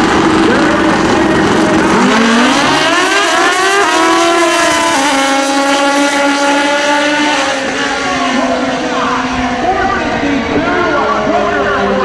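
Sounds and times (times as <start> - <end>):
motorcycle engine revving through gears: 0.0 - 9.7.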